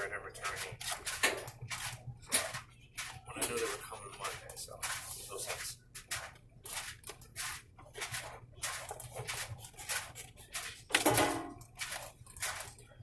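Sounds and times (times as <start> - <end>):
packaging rustling and scraping: 0.6 - 13.0.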